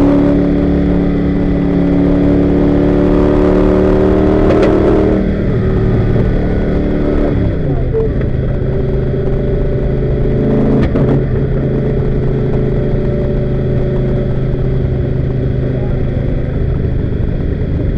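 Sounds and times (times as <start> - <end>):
car engine running: 0.0 - 17.9.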